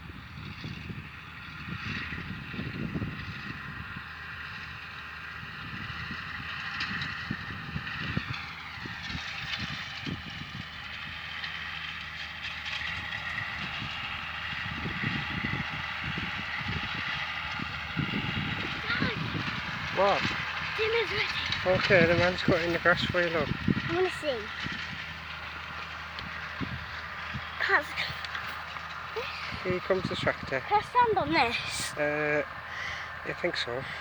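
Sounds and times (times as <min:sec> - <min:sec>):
wind buffeting microphone: 0:00.0 - 0:11.9, 0:12.6 - 0:34.0
tractor engine whine: 0:00.0 - 0:34.0.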